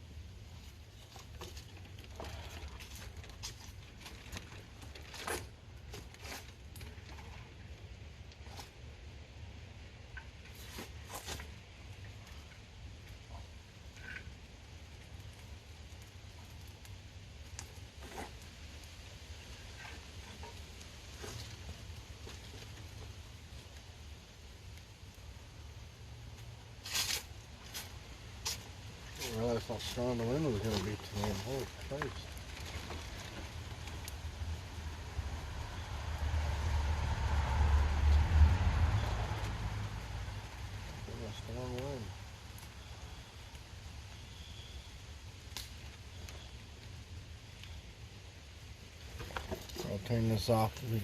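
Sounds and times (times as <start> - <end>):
bonfire pops and crackles: 0.6 - 51.0.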